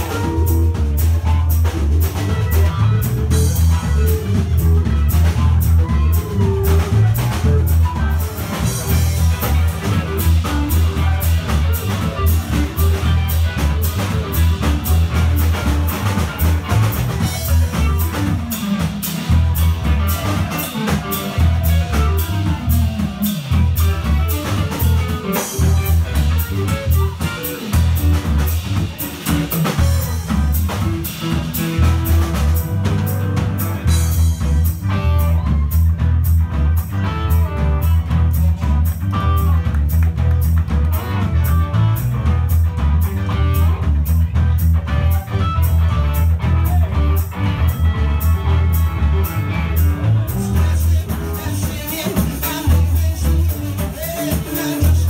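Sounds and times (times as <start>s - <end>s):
drum kit beat: 0.0s - 55.0s
electric guitars playing: 0.0s - 55.0s.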